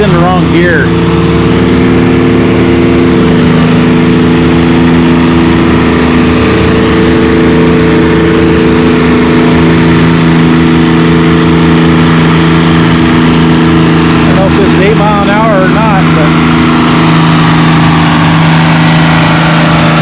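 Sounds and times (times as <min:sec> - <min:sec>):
tractor diesel engine running hard: 0:00.0 - 0:20.0.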